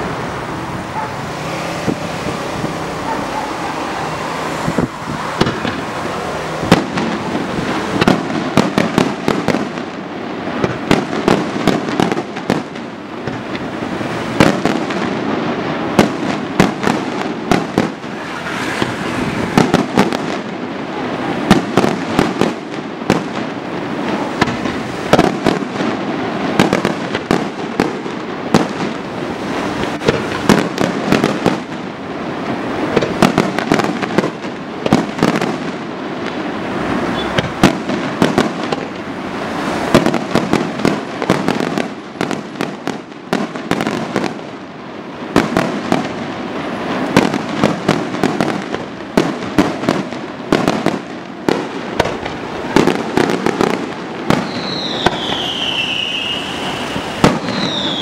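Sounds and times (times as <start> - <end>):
fireworks bangs and crackling: 0.0 - 58.0
loud firework blasts: 0.0 - 58.0.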